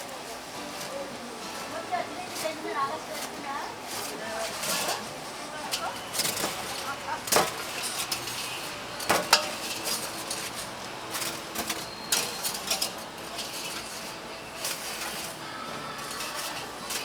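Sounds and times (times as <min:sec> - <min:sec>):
metal utensils and pans clattering: 0:00.0 - 0:17.0.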